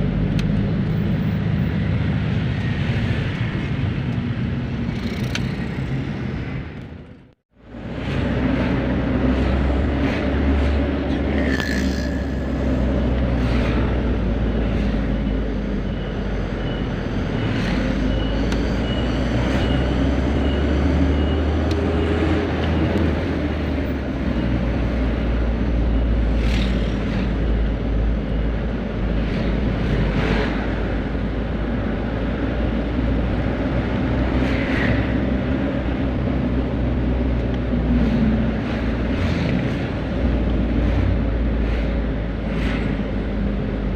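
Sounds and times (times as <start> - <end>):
road noise: 0.0 - 43.9.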